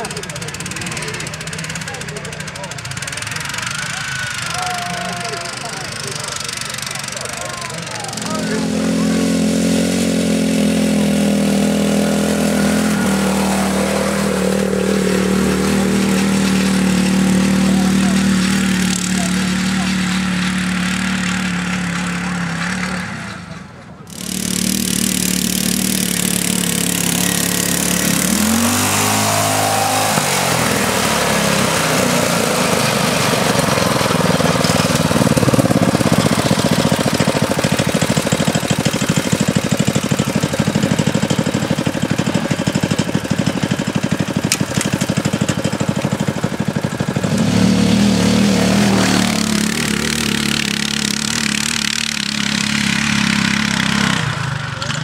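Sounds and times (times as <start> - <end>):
lawn mower engines running hard: 0.0 - 55.0.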